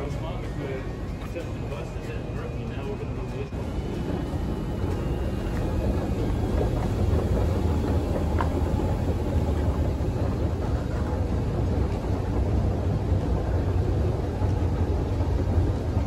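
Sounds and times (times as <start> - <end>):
escalator rumbling: 0.0 - 16.0.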